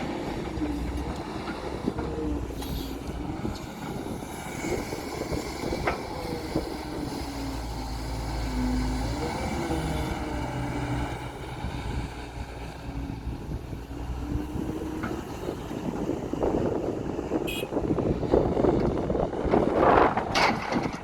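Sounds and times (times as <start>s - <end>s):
diesel machinery engine running: 0.0s - 21.0s.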